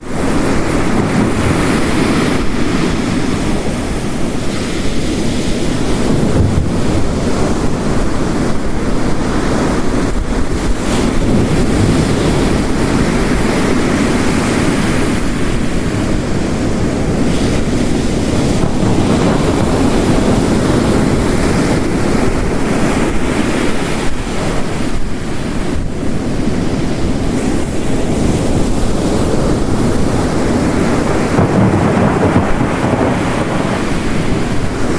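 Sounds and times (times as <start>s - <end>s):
heavy rain: 0.0s - 34.9s
ocean waves crashing: 0.0s - 34.9s.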